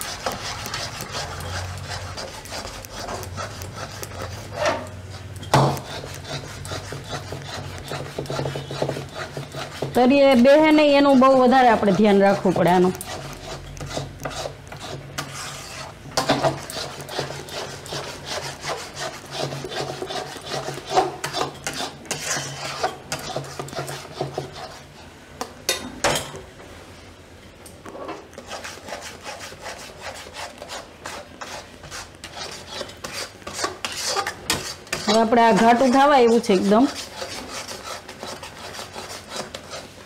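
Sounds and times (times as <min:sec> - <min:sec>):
metal spoon scraping a pan: 0:00.0 - 0:26.3, 0:27.9 - 0:40.0.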